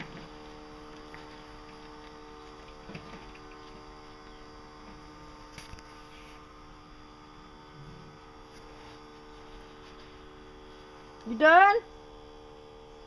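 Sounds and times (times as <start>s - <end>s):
lawn mower engine running: 0.0s - 11.7s.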